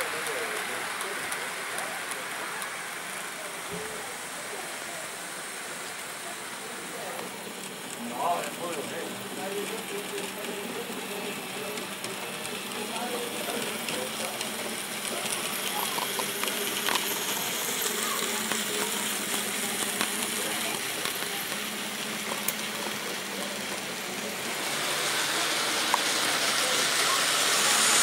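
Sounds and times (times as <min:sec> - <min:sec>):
model trains whirring: 0:00.0 - 0:28.0.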